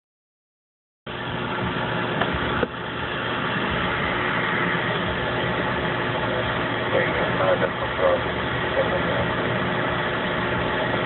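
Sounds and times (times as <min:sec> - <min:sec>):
car engine idling: 0:01.7 - 0:11.0.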